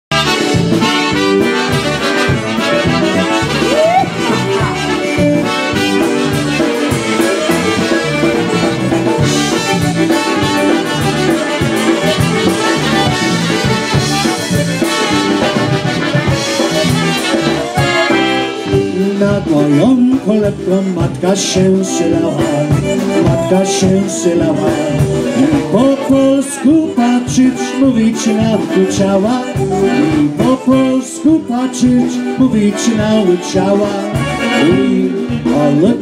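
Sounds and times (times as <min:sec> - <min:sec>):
drums: 0:00.0 - 0:36.0
concertina melody: 0:00.1 - 0:36.0
electric bass guitar: 0:00.1 - 0:36.0.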